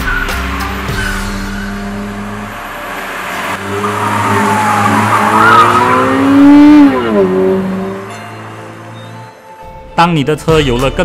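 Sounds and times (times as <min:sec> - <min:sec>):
car engine accelerating: 0:00.0 - 0:09.6
road and tyre noise: 0:00.0 - 0:10.1.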